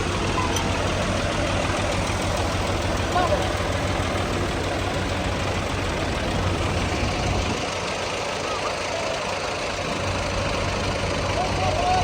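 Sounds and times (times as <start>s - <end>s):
combine harvester engine: 0.0s - 12.0s.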